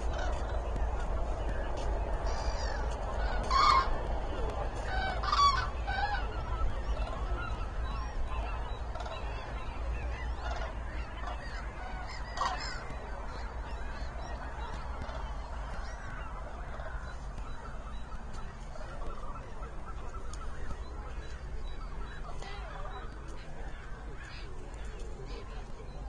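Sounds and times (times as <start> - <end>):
cranes trumpeting calls: 0.0 - 25.7
distant cranes calling chorus: 0.0 - 26.0.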